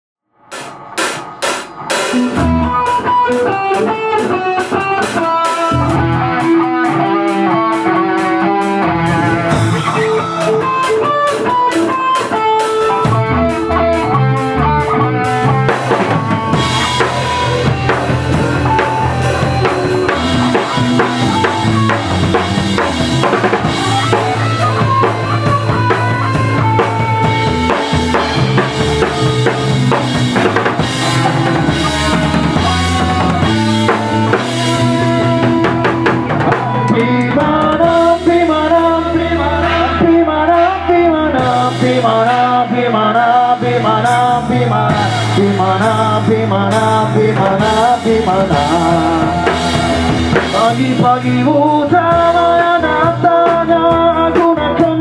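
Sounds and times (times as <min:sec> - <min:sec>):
electric guitar lines: 0:00.3 - 0:55.0
bass guitar: 0:00.4 - 0:55.0
drum kit: 0:00.4 - 0:55.0.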